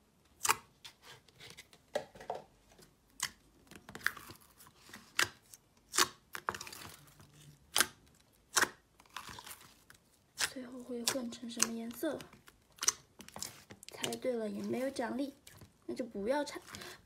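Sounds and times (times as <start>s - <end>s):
sticky slime popping and crackling: 3.1s - 17.0s.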